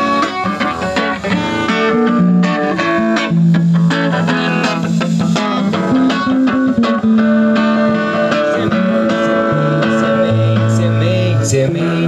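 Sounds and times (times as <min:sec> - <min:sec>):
guitar: 0:00.0 - 0:12.0
low bass notes: 0:00.0 - 0:12.0.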